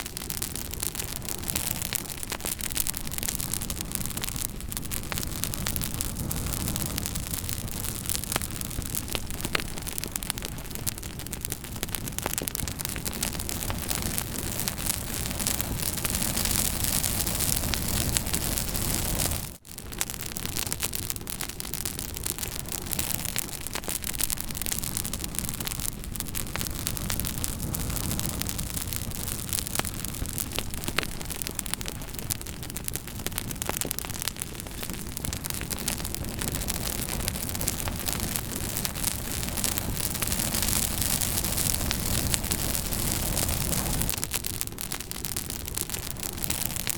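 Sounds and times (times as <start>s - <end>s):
campfire crackling and popping: 0.0s - 46.9s
fire rushing hiss: 0.1s - 19.6s, 24.1s - 32.3s, 34.2s - 46.9s.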